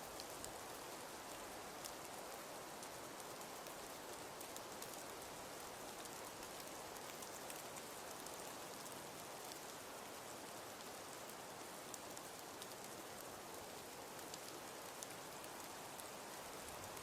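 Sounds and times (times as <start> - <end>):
wood fire crackling: 0.1 - 17.0.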